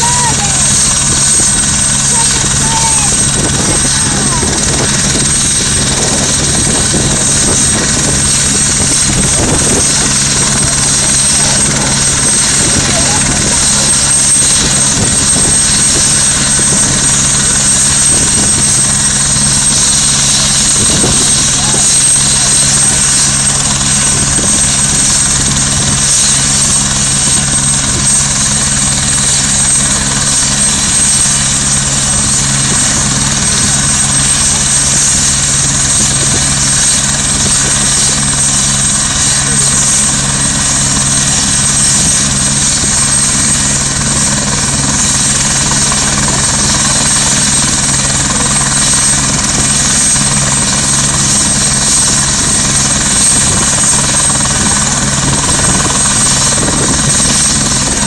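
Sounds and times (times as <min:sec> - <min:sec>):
helicopter rotor running: 0:00.0 - 0:58.0.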